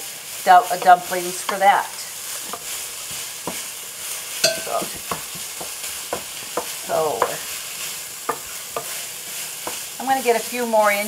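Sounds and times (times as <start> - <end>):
sausage sizzling in a pan: 0.0 - 11.0.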